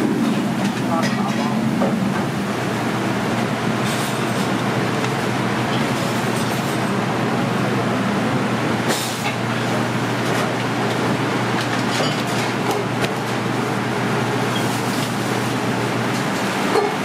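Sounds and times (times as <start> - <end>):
busy kitchen roar: 0.0 - 17.0.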